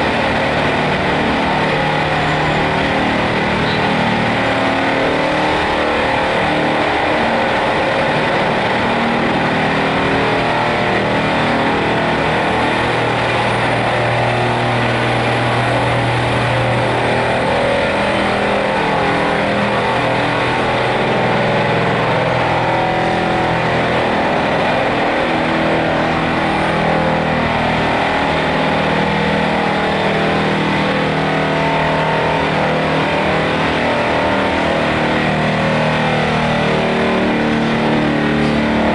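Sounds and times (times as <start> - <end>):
heavy machinery engines revving: 0.0 - 38.9.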